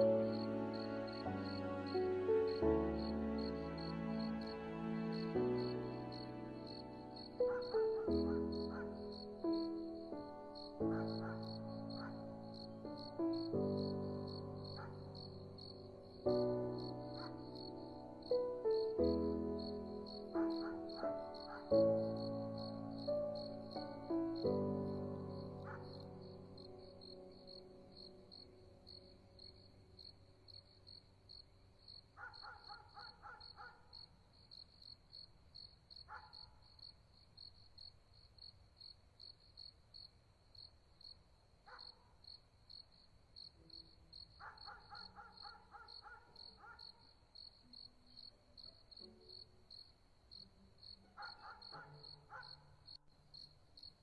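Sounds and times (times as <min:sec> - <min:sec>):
faint cricket chirping: 0:00.0 - 0:54.0.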